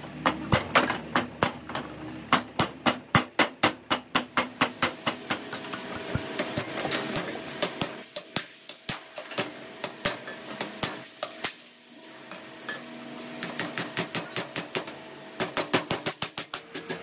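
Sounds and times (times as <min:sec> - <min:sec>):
hammer striking metal: 0:00.2 - 0:11.6, 0:13.4 - 0:17.0.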